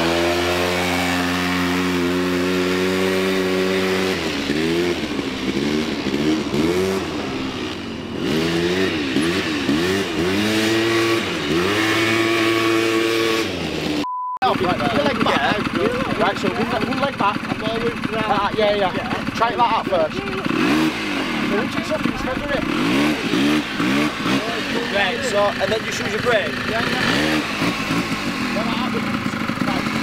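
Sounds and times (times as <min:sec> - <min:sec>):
quad bike engine revving: 0:00.0 - 0:30.0.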